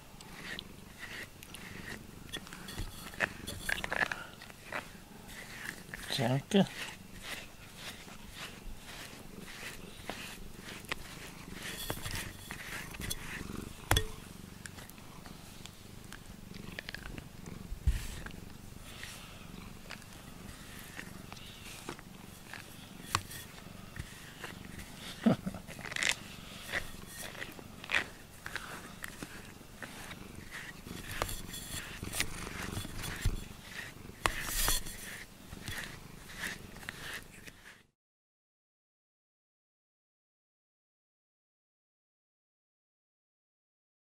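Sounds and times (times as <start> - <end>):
cat purring: 0.0 - 37.6.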